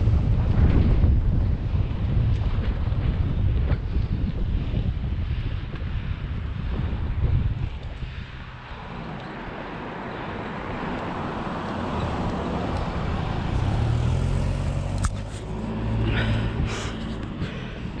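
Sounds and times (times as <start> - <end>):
bike rolling rumble: 0.0 - 18.0
wind buffeting microphone: 0.0 - 18.0.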